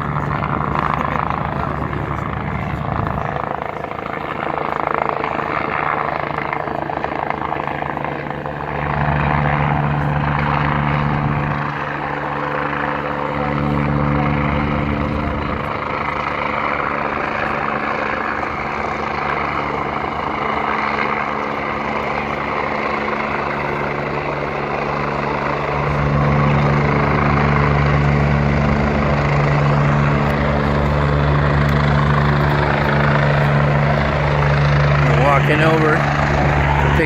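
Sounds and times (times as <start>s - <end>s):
helicopter rotor and turbine: 0.0s - 37.0s.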